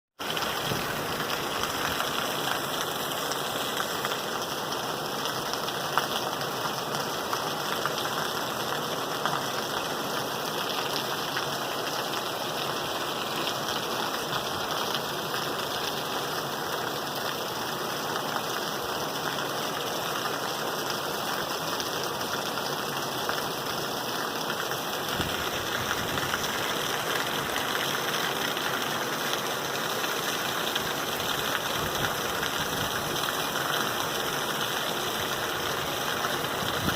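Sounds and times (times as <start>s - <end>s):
steady rain falling: 0.2s - 36.9s.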